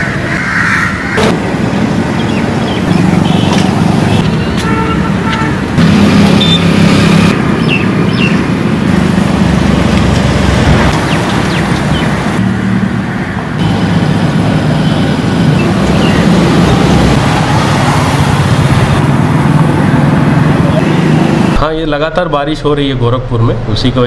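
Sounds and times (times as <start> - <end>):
loud outdoor rumble: 0.0 - 24.0.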